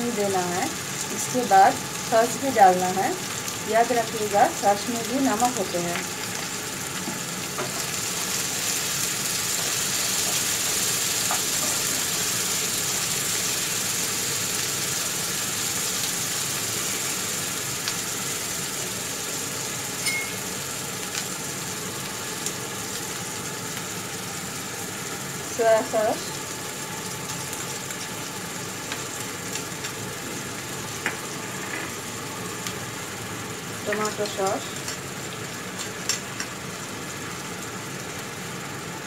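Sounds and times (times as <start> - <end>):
vegetables sizzling in oil: 0.0 - 39.0.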